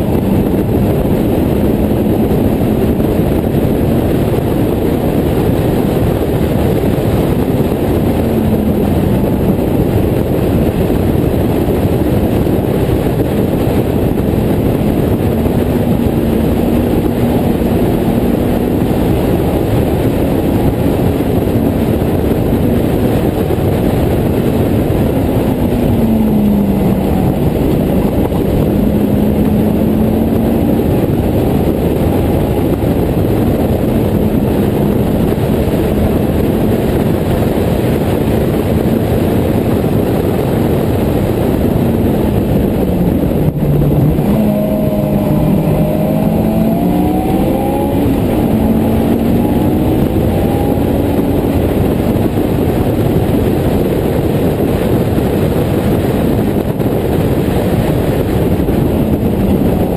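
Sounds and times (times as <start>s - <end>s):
car engine revving: 0.0s - 59.9s
wind noise rushing: 0.0s - 59.9s.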